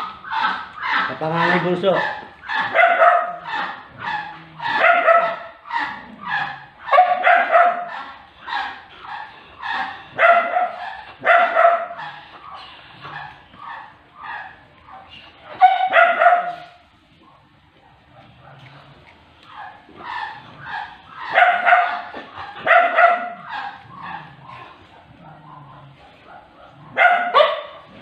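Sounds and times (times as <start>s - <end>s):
dog barking: 2.0s - 12.2s, 13.1s - 17.4s, 19.5s - 28.0s.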